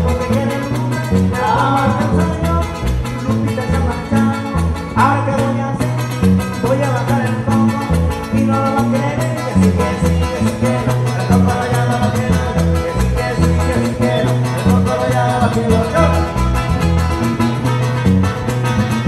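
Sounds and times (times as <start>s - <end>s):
latin dance music: 0.0s - 19.0s.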